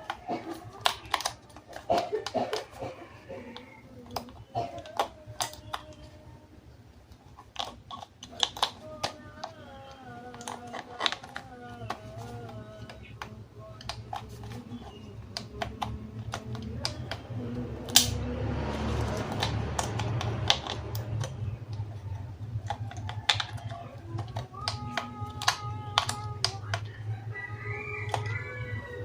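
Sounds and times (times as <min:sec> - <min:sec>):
plastic toys clicking and clacking: 0:00.0 - 0:29.0.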